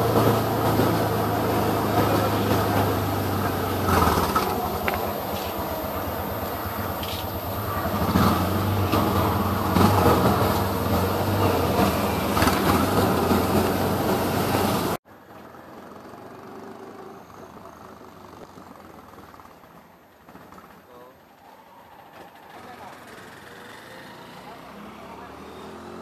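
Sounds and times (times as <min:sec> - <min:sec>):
road noise: 0:00.0 - 0:26.0
small engine running: 0:00.0 - 0:26.0.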